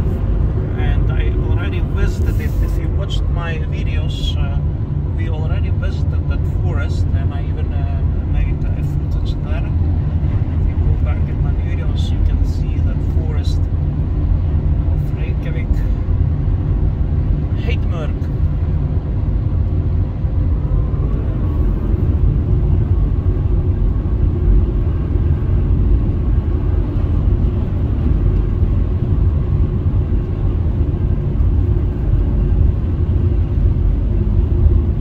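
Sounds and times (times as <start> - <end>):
car engine hum: 0.0 - 35.0
road and tyre noise: 0.0 - 35.0.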